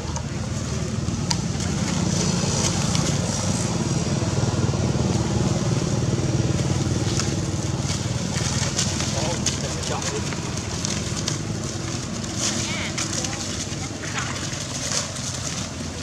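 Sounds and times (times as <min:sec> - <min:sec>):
motor engine running steadily: 0:00.0 - 0:16.0.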